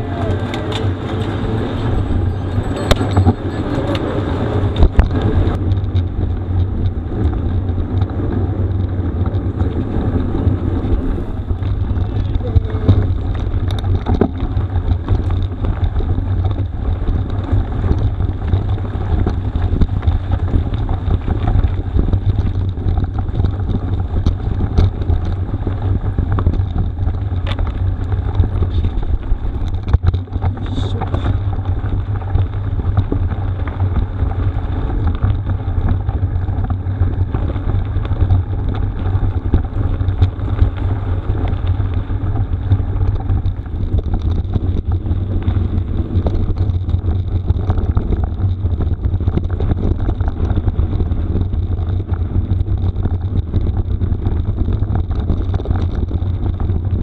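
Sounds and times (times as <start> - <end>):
bike tyre noise: 0.0 - 57.0
wind rumble on microphone: 0.0 - 57.0.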